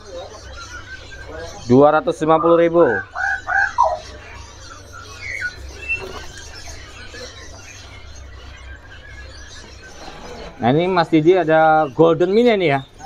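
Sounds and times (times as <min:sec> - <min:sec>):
caged birds calling: 0:00.0 - 0:13.0
steady low hum: 0:00.0 - 0:13.0.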